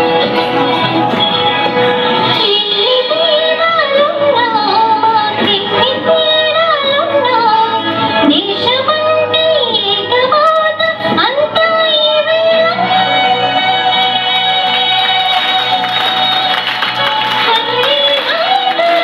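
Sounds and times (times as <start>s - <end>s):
instrumental backing music: 0.0s - 19.0s
girl singing into microphone: 2.2s - 16.6s, 17.4s - 19.0s.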